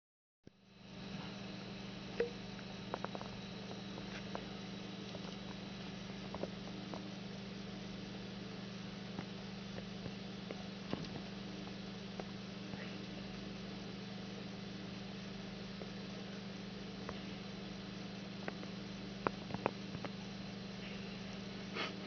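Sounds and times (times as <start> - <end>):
low hum: 0.5 - 22.0.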